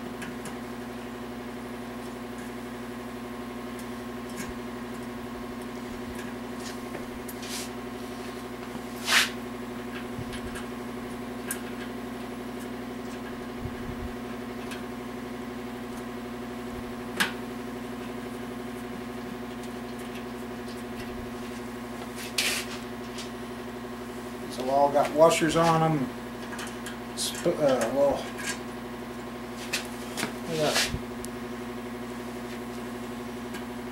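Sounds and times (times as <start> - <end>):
machine electrical hum: 0.0 - 33.9.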